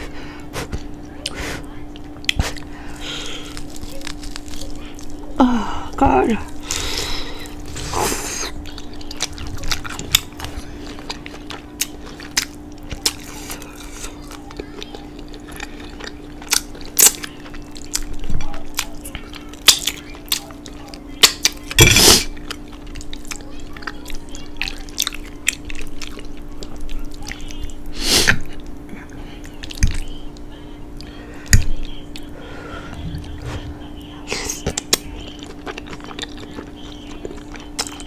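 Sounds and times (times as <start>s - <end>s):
steady low hum: 0.0s - 38.0s
chewing: 0.5s - 5.4s, 6.4s - 38.0s.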